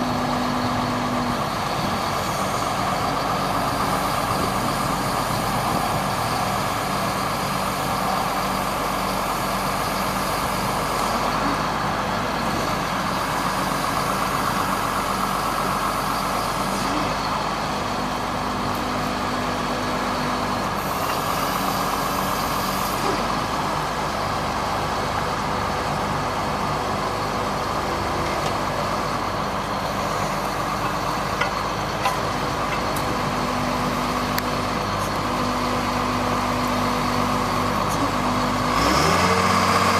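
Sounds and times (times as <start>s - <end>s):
steady whine: 0.0s - 38.7s
truck engine running: 0.0s - 39.9s.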